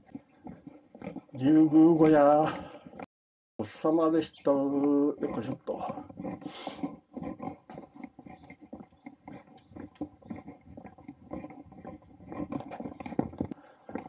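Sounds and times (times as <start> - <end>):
footsteps on wooden boardwalk: 0.0 - 3.1, 3.7 - 14.0.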